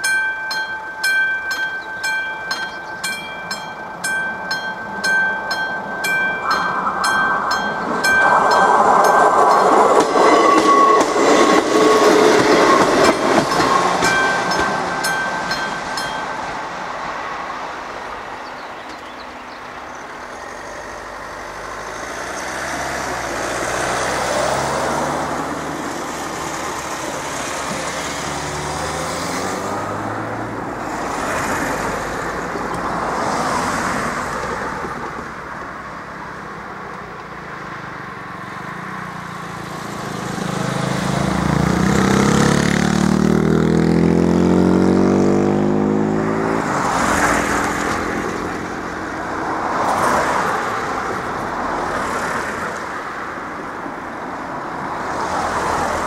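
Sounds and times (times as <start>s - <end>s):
cars passing over level crossing: 0.0s - 56.0s.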